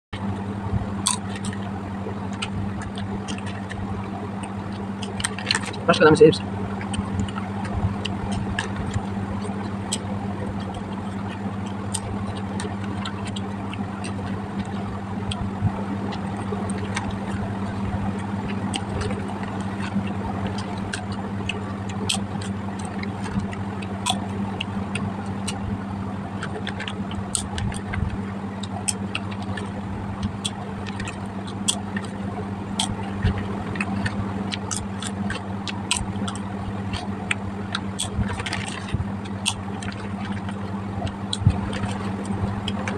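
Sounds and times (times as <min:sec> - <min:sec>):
engine-like hum: 0:00.1 - 0:42.9
sharp clicks and crackles: 0:00.2 - 0:42.9.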